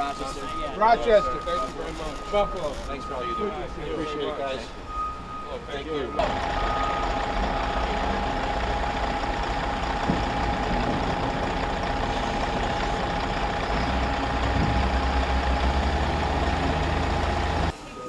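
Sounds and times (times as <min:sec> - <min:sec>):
heavy vehicle engine running: 0:01.6 - 0:17.8.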